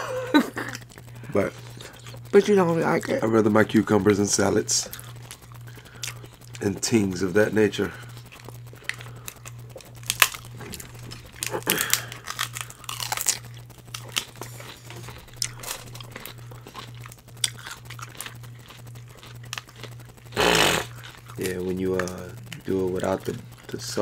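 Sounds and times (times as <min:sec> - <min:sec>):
steady low hum: 0:00.0 - 0:24.0
food crunching and chewing: 0:00.3 - 0:24.0.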